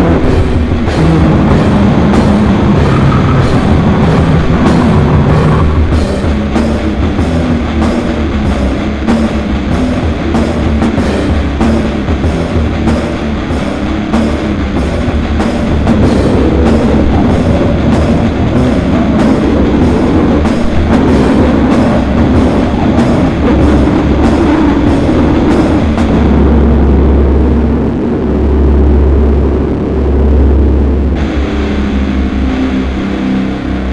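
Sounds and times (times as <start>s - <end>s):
pounding drums: 0.0s - 27.7s
distorted guitar: 0.0s - 33.9s
heavy bass: 0.0s - 33.9s.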